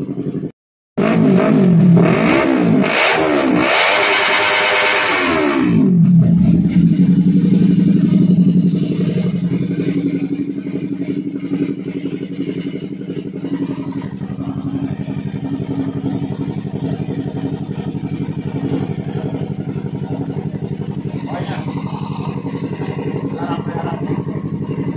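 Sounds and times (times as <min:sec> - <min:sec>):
motorcycle engine revving and idling: 0:00.0 - 0:24.9.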